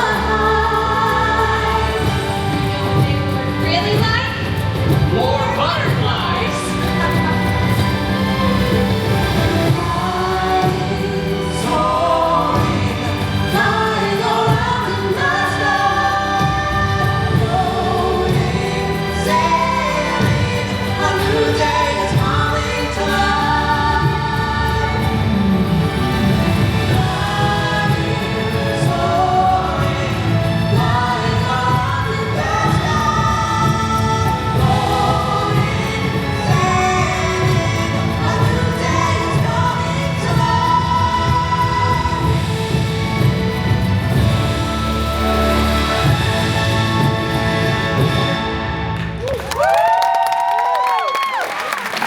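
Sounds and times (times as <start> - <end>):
group of voices singing: 0.0 - 48.9.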